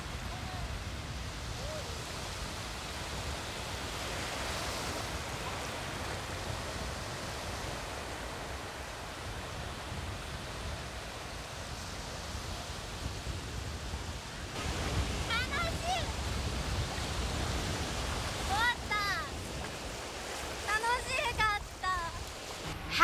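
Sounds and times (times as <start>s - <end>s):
surf washing and breaking: 0.0s - 23.0s.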